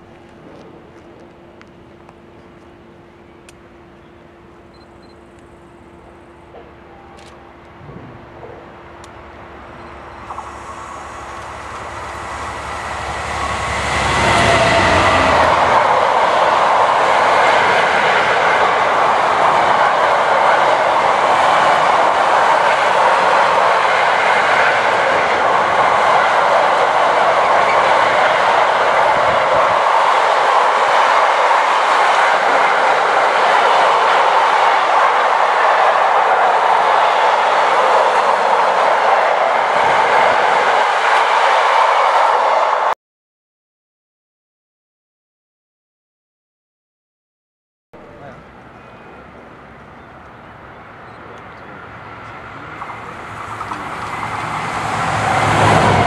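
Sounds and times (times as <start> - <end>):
train passing on rails: 0.0 - 43.0, 48.0 - 56.0.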